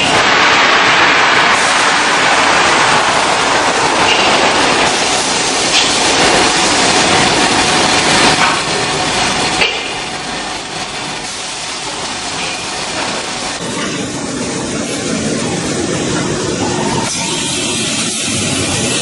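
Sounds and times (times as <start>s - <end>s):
factory machinery din: 0.0s - 19.0s.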